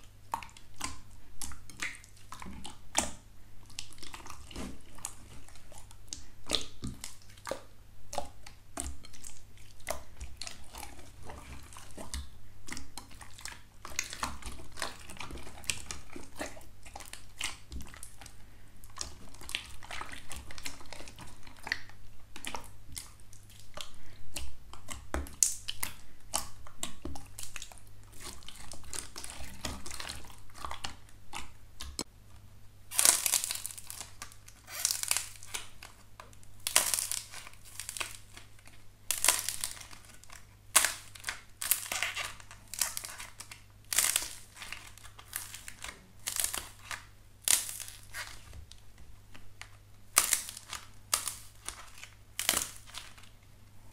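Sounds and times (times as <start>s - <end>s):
slime squishing with sticky clicks: 0.0s - 32.1s, 32.9s - 53.5s.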